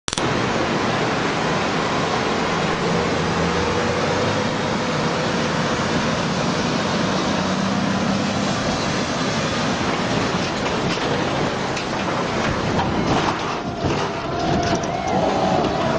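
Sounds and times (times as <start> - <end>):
floodwater rushing: 0.1 - 15.9.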